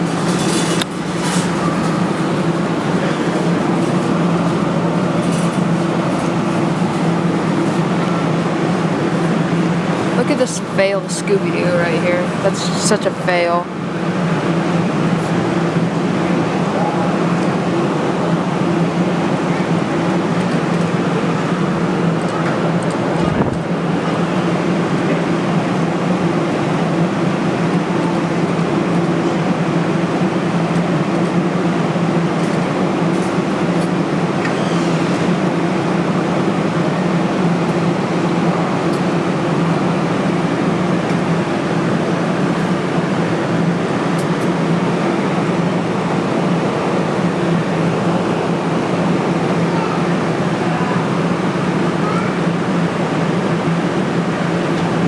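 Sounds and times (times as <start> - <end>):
low droning machine hum: 0.0 - 55.0.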